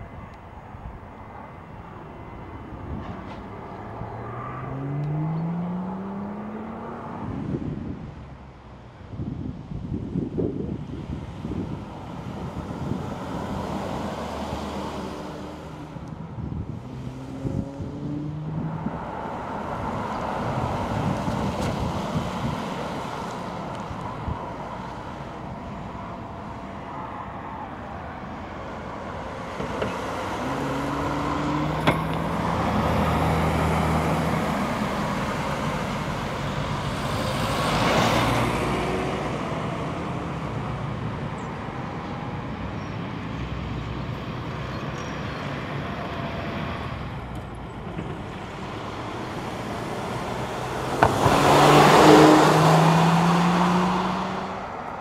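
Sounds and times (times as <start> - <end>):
cars driving past: 0.0 - 8.7, 10.9 - 55.0.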